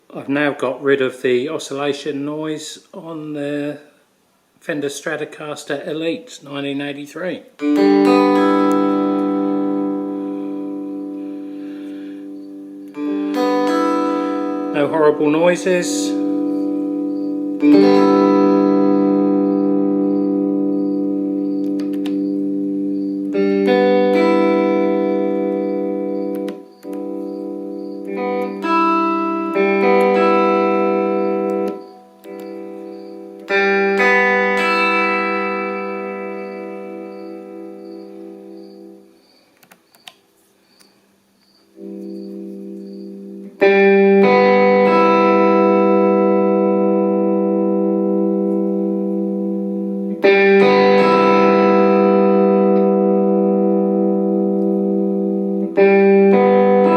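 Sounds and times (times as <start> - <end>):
clean electric guitar chords: 7.6 - 39.3, 41.8 - 56.9.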